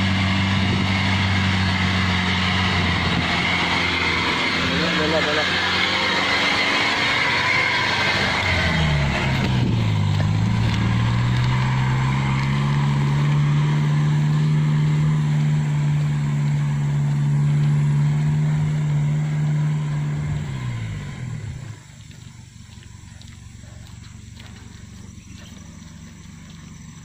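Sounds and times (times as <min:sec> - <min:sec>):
pickup engine revving: 0:00.0 - 0:27.0.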